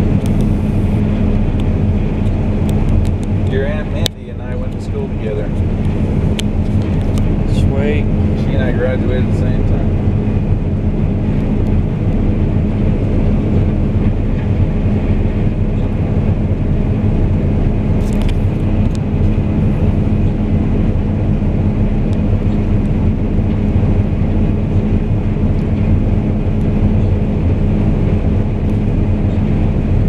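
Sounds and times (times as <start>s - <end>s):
combine harvester low drone: 0.0s - 30.0s.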